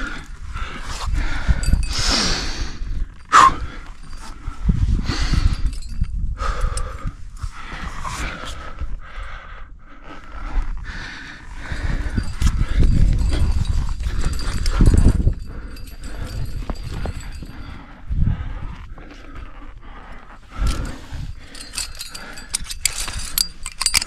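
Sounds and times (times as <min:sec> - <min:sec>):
person breathing hard: 0:00.0 - 0:24.0.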